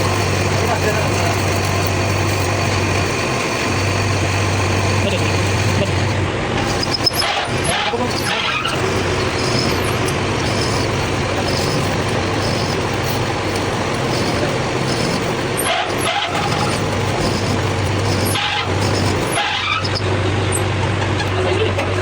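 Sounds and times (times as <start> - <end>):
machine humming: 0.0 - 21.1.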